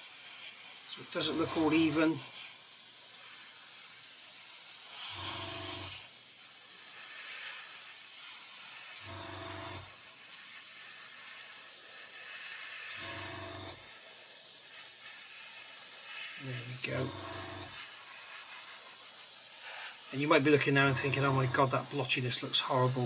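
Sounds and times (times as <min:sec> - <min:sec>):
airbrush hissing: 0:00.0 - 0:23.0.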